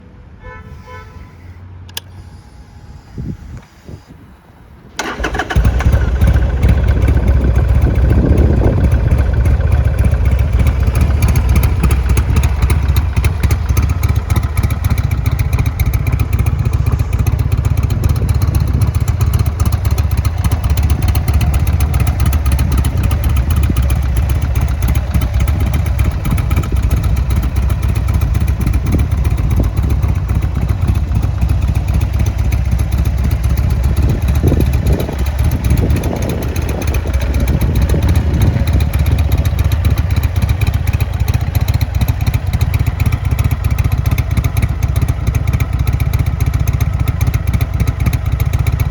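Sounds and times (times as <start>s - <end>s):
motorcycle engine starting and idling: 1.9s - 48.9s.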